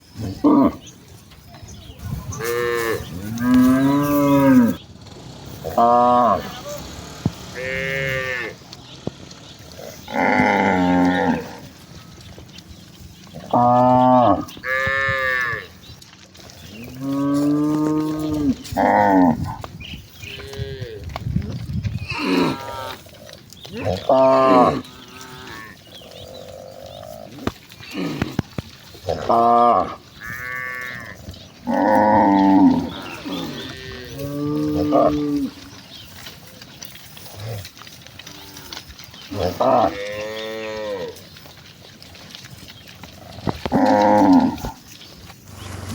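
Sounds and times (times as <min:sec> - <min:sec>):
cattle mooing: 0:00.2 - 0:00.9, 0:02.3 - 0:04.8, 0:05.4 - 0:12.3, 0:13.2 - 0:15.8, 0:16.6 - 0:21.1, 0:22.0 - 0:36.1, 0:37.2 - 0:41.3, 0:43.0 - 0:44.9.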